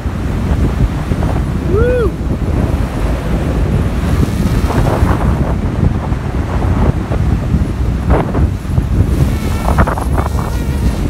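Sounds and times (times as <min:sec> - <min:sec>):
drone propellers buzzing: 0:00.0 - 0:11.0
wind buffeting microphone: 0:00.0 - 0:11.0.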